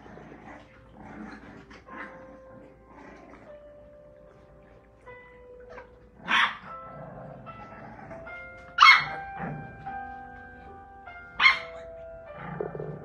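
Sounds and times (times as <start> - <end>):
puppies barking: 0.0 - 10.5, 11.2 - 13.0
background music with held notes: 0.0 - 13.0.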